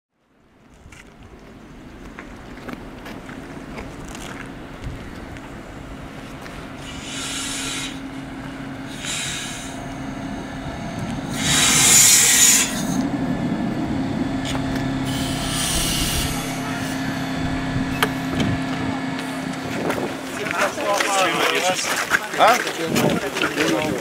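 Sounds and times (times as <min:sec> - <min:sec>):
diesel train engines humming: 0:01.2 - 0:21.9.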